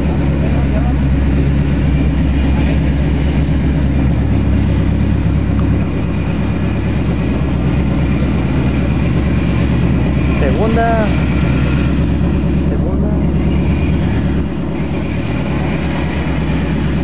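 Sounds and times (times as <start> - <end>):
suv engine rumbling: 0.0 - 17.0.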